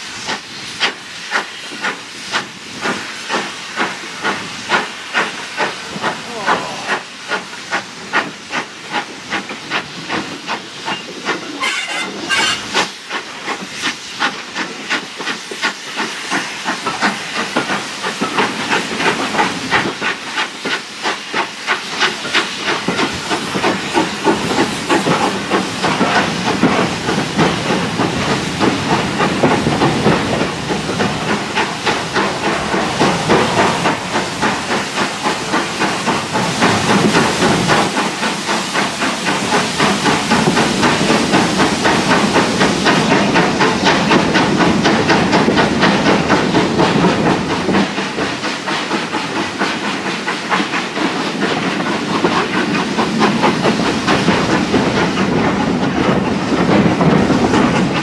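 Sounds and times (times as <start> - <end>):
steam hissing: 0.0 - 58.0
steam locomotive chuffing: 0.0 - 58.0.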